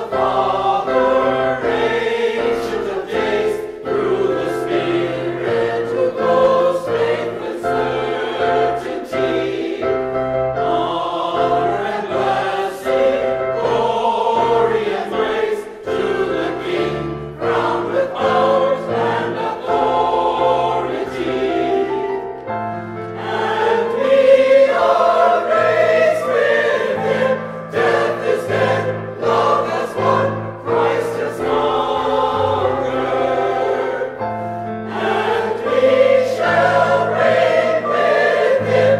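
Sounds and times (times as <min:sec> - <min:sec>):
choir singing sacred music: 0:00.0 - 0:38.9.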